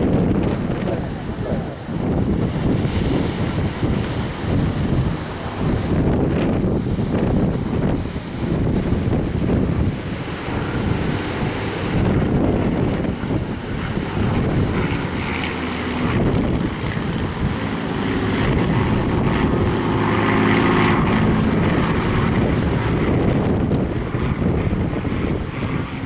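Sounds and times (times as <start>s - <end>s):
piston aircraft engine: 0.0s - 26.0s
wind buffeting microphone: 0.0s - 26.0s.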